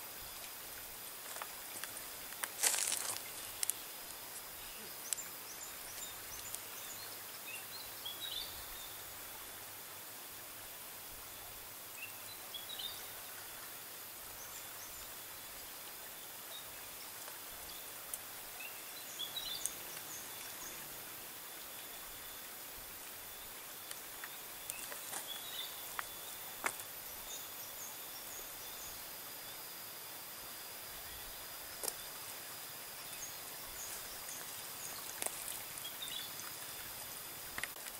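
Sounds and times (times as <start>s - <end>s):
steady high hiss: 0.0s - 37.9s.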